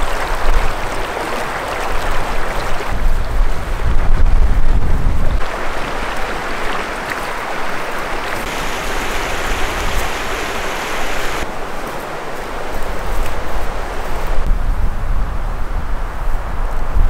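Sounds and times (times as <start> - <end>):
rushing mountain creek: 0.0 - 4.5, 5.1 - 14.5
wind rumble on microphone: 0.0 - 17.0.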